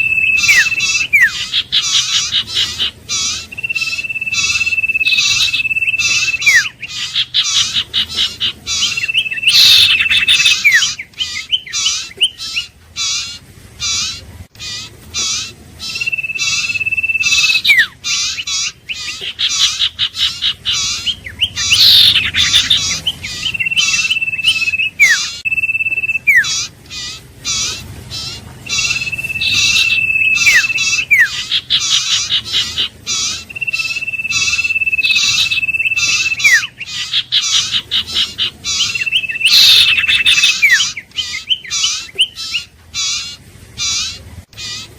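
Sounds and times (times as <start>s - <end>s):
long high bird whistles: 0.0s - 44.8s
fast high bird chirps: 0.0s - 44.9s.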